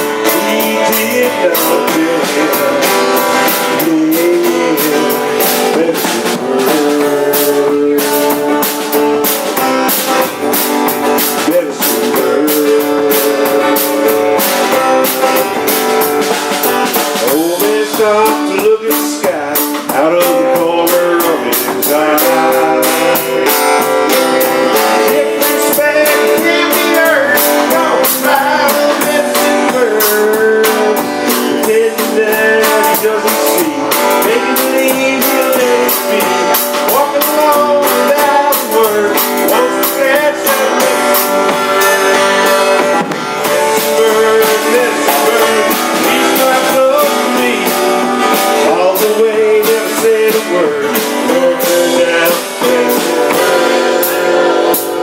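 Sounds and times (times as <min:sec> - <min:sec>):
blues guitar with bent notes: 0:00.0 - 0:55.0
drum kit beat: 0:00.0 - 0:55.0.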